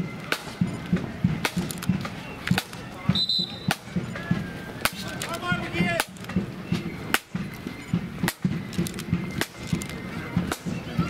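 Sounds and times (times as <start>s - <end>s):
low drum beat: 0.0s - 11.0s.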